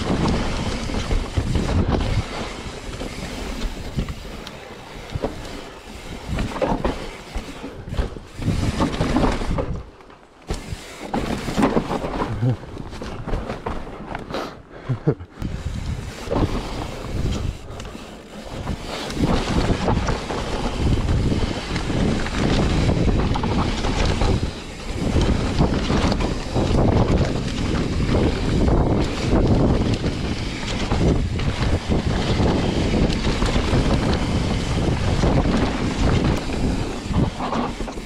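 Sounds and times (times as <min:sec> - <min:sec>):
wind on microphone: 0:00.0 - 0:09.9, 0:15.4 - 0:38.0
bike knocks and rattles: 0:00.0 - 0:14.3, 0:15.4 - 0:38.0
bike tyres rolling over dirt: 0:00.0 - 0:14.3, 0:15.4 - 0:38.0.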